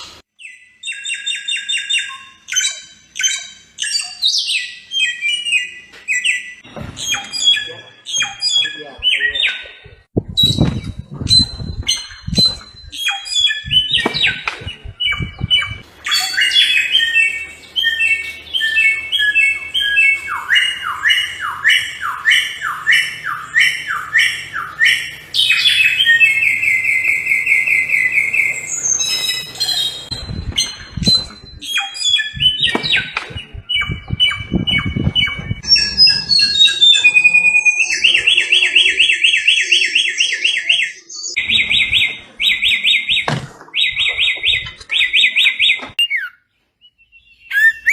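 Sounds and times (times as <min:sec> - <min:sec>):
songbird singing whistles and trills: 0:00.4 - 0:47.9.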